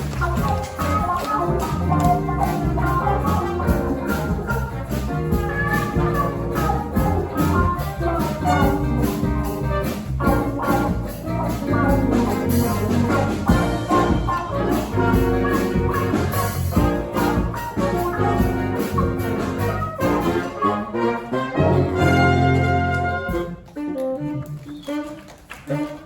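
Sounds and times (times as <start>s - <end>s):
drum and percussion beat: 0.0s - 20.7s, 21.6s - 23.8s
brass band horns: 0.0s - 26.0s.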